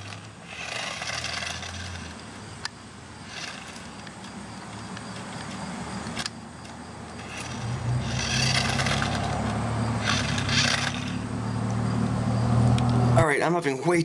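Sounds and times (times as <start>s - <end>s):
toy car electric motor humming: 0.0s - 11.8s
wheels scraping on driveway: 0.0s - 12.0s.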